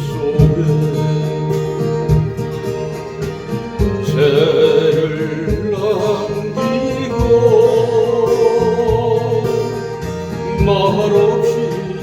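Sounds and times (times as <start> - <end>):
person singing folk song: 0.0 - 12.0
strummed acoustic guitar: 0.0 - 12.0.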